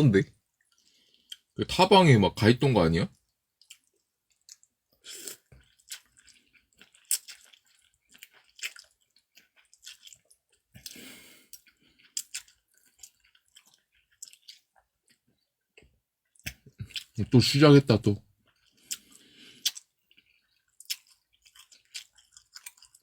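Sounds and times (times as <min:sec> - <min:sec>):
person chewing and eating: 0:00.5 - 0:01.6, 0:03.2 - 0:17.3, 0:18.4 - 0:23.0.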